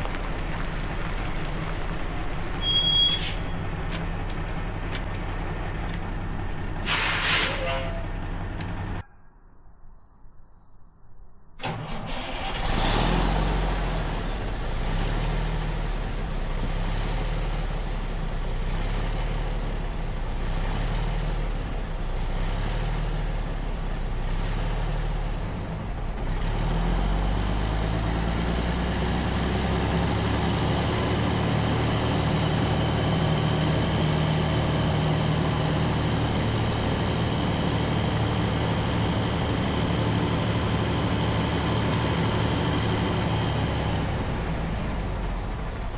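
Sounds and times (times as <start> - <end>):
truck engine running: 0.0 - 9.0, 11.6 - 45.9.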